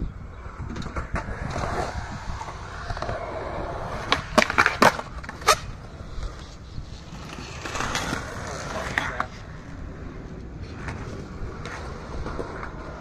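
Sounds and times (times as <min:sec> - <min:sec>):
skateboard wheels rolling on concrete: 0:00.0 - 0:13.0
skateboard clacks and grinding: 0:00.4 - 0:13.0.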